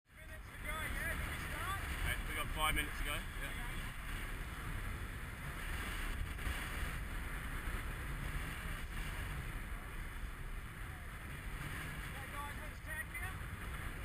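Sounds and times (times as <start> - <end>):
water rushing along hull: 0.2 - 14.0
wind buffeting microphone: 0.2 - 14.0.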